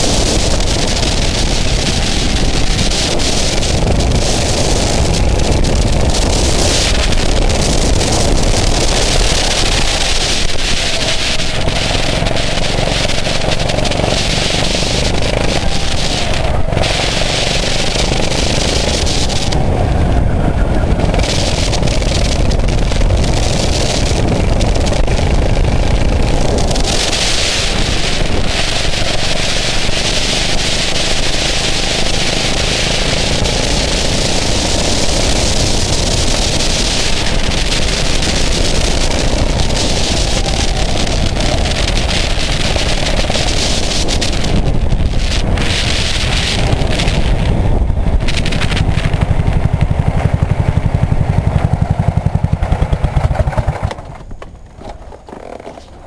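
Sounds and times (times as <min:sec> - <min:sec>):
go-kart engine racing: 0:00.0 - 0:56.0
wind noise on microphone: 0:00.0 - 0:56.0.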